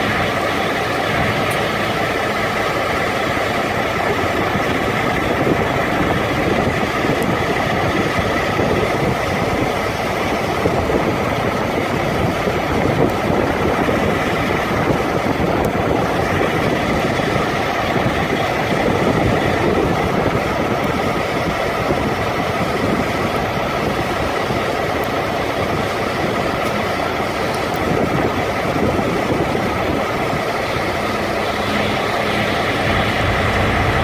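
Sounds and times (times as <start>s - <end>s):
refrigeration unit diesel drone: 0.0s - 34.0s.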